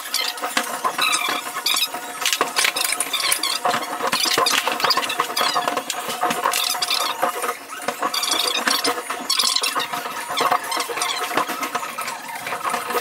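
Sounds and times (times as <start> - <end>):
rapid clatter of tools and metal parts: 0.0 - 13.0.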